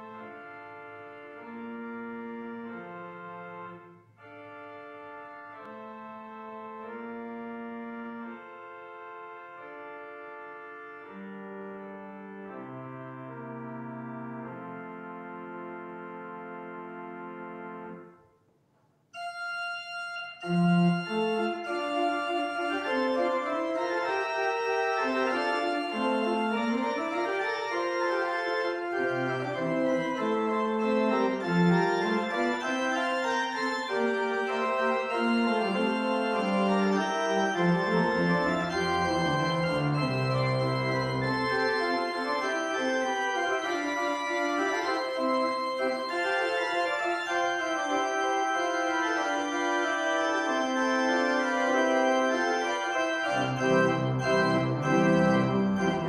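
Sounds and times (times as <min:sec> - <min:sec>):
church organ playing chords: 0:00.0 - 0:18.3, 0:19.2 - 0:56.0.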